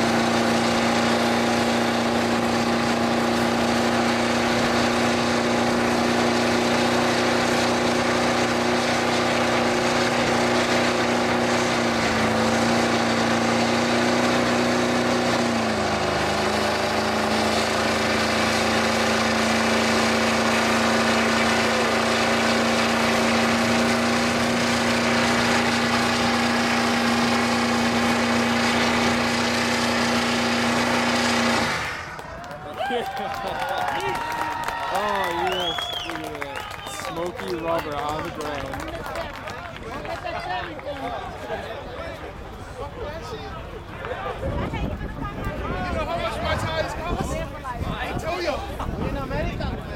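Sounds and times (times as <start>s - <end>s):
diesel engine at high revs: 0.0s - 40.6s
tyres spinning on pavement: 0.0s - 48.9s.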